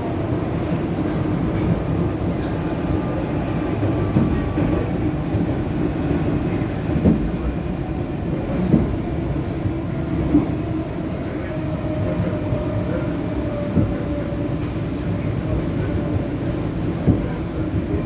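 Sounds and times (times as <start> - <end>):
train rumble with hum: 0.0 - 18.0.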